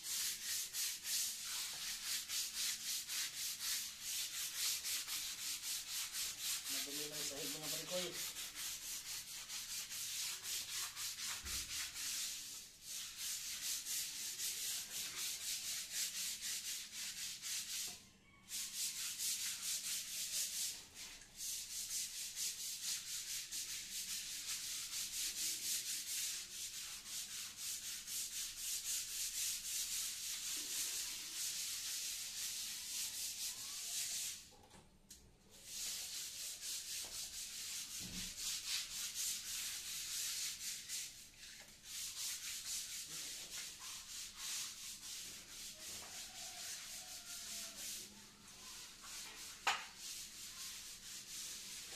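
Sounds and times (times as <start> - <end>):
scrubber scrubbing wet tiles: 0.0 - 34.5, 35.6 - 51.9.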